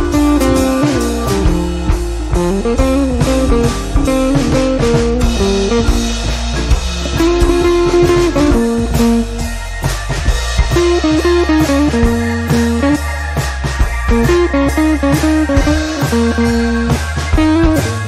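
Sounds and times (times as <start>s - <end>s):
guitar tune with drums: 0.0s - 18.0s.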